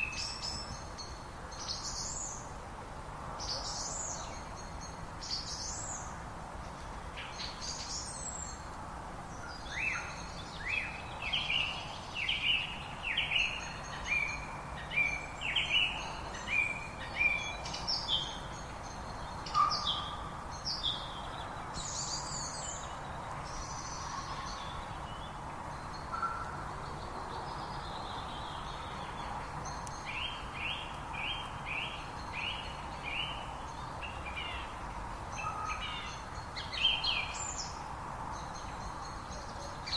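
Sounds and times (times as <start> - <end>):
songbirds calling: 0.0 - 2.6, 3.2 - 39.9.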